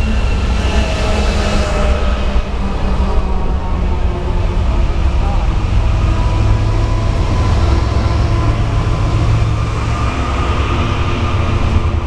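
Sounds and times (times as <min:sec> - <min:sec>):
diesel locomotives rumbling past: 0:00.0 - 0:12.0.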